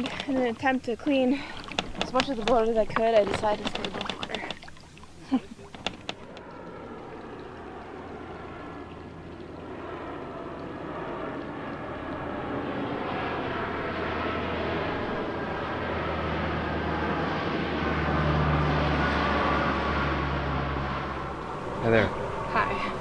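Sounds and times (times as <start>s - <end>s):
propeller airplane engine drone: 0.0s - 23.0s.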